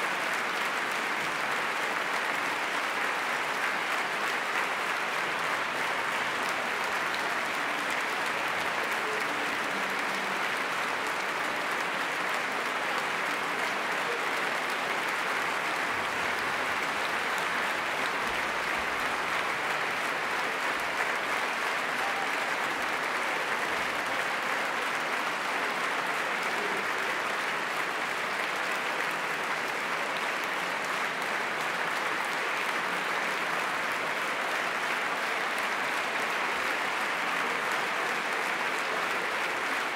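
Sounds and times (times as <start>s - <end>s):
large audience applauding: 0.0s - 39.9s.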